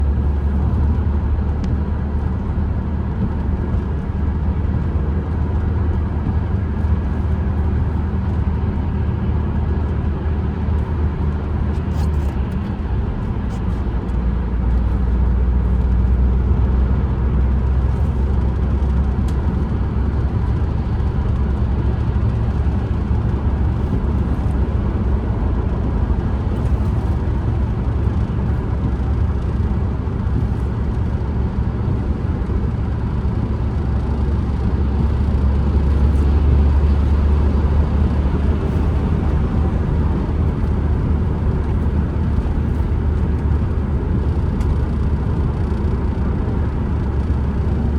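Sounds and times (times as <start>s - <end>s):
van interior driving rumble: 0.0s - 47.9s.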